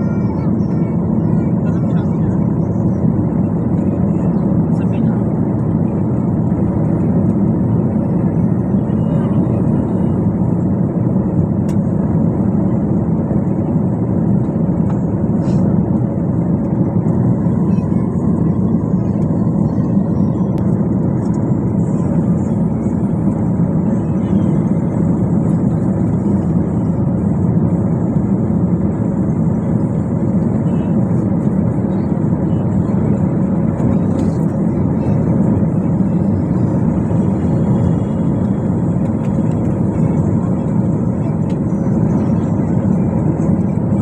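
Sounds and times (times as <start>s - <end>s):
jet engine cabin rush: 0.0s - 44.0s.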